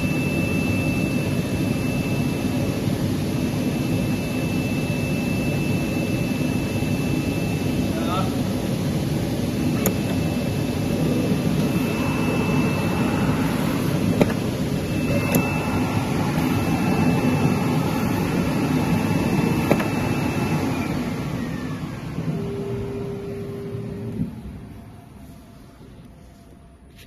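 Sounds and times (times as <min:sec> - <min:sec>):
machine hum: 0:00.0 - 0:26.9
thin high whine: 0:00.0 - 0:27.0.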